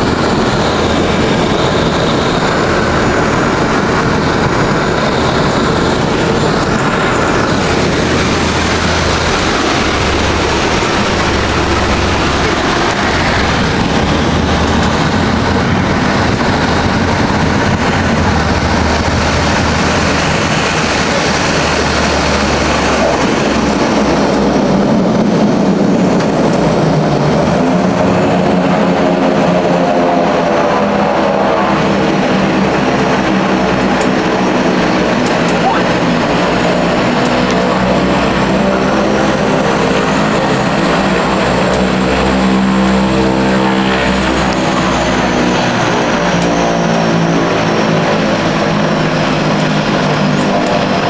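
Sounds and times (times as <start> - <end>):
propeller hum: 0.0 - 51.0
turboprop engines rushing: 0.0 - 51.0.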